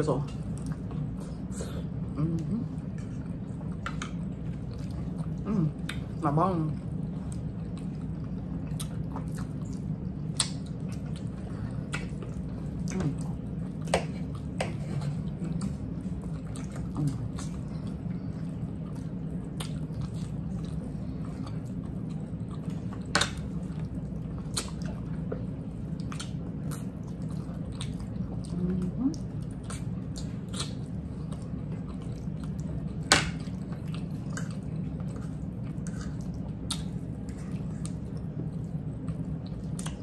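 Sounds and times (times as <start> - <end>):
people chewing fried chicken: 0.0 - 40.0
steady low hum: 0.0 - 40.0.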